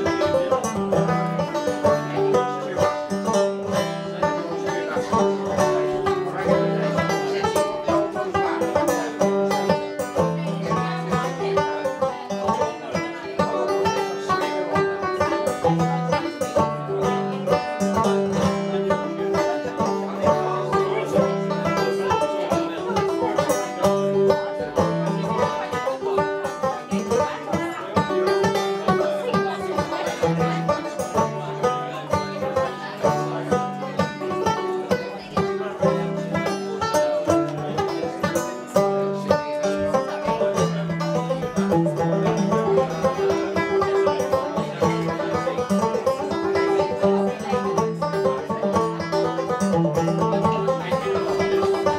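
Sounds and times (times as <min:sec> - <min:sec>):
banjo plucked melody: 0:00.0 - 0:51.9.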